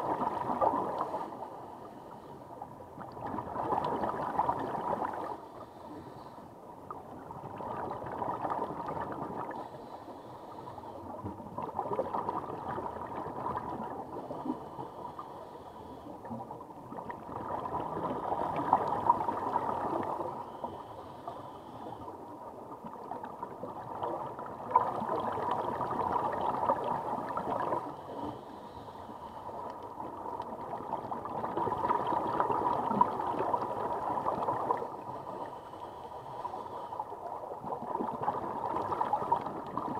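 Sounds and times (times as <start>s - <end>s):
gurgling bubbles underwater: 0.0s - 1.5s, 2.8s - 6.1s, 6.8s - 10.0s, 11.0s - 15.4s, 16.2s - 21.1s, 22.0s - 28.6s, 29.2s - 35.7s, 36.3s - 39.9s.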